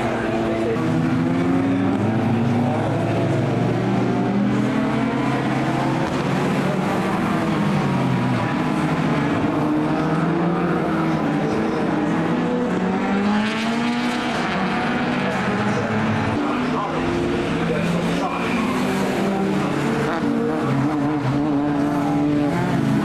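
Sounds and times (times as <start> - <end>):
racing car engines revving: 0.0 - 23.0.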